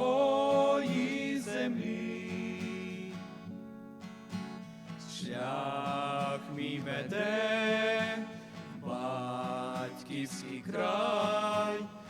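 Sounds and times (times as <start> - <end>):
group singing a hymn: 0.0 - 3.6, 5.1 - 12.0.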